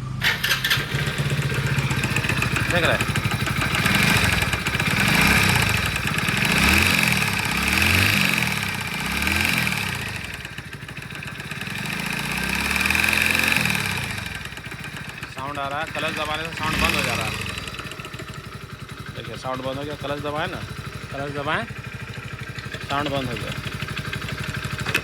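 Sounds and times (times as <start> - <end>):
motorcycle engine revving: 0.0 - 25.0
knocking noise inside engine: 0.8 - 25.0.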